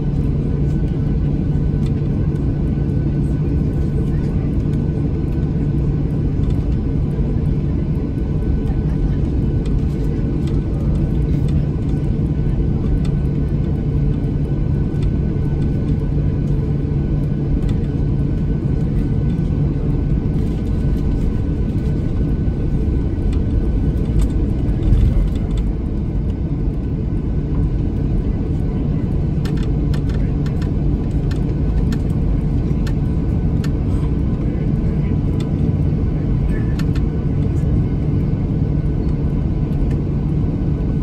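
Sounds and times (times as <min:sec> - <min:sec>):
jet engines rumbling in cabin: 0:00.0 - 0:41.0
low hum: 0:00.0 - 0:41.0.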